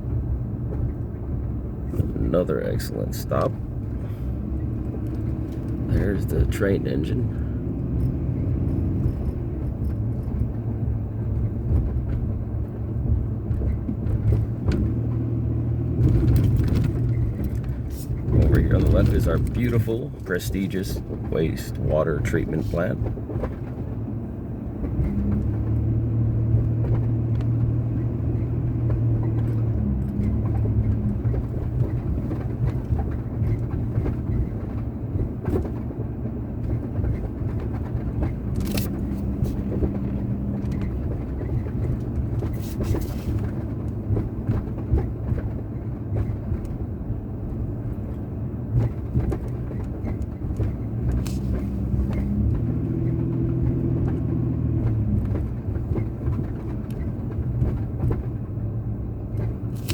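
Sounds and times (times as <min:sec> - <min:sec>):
engine hum: 0:00.0 - 0:59.9
road and tyre rumble: 0:00.0 - 0:59.9.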